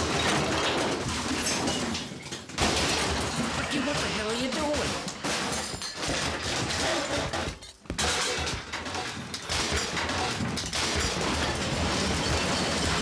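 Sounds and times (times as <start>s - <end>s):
things smashing and breaking: 0.0s - 13.0s.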